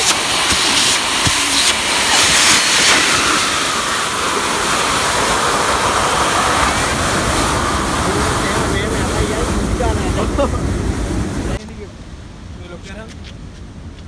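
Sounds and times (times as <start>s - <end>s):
air rushing through vent: 0.0s - 11.6s.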